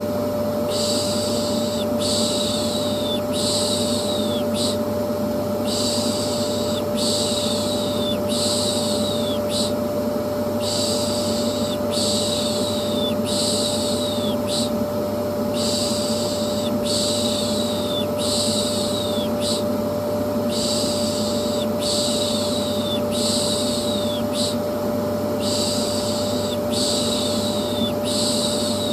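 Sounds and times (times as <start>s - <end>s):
vacuum cleaner humming: 0.0s - 28.9s.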